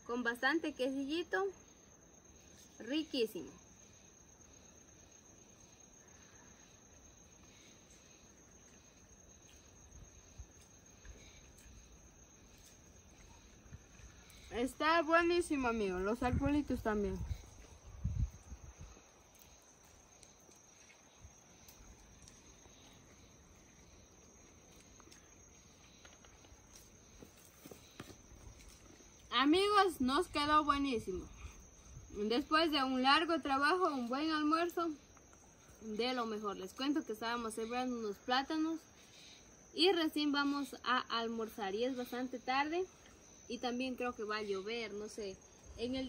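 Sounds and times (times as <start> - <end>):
faint drone of crickets: 0.0 - 46.0
faint high-pitched insect chorus: 0.0 - 46.0.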